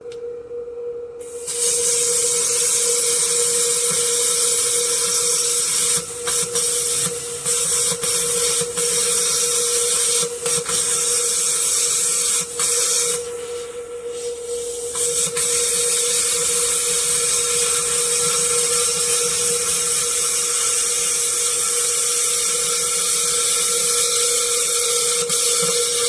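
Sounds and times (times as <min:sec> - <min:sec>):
power tool hissing and humming: 0:01.3 - 0:26.0.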